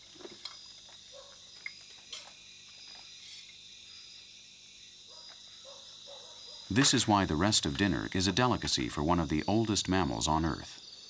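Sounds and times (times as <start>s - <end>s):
night insects chirring: 0.0s - 11.0s.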